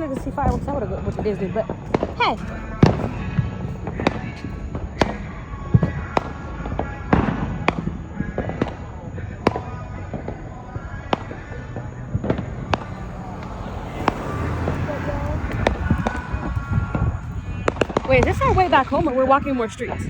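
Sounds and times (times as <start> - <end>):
fireworks bangs and pops: 0.0 - 19.2.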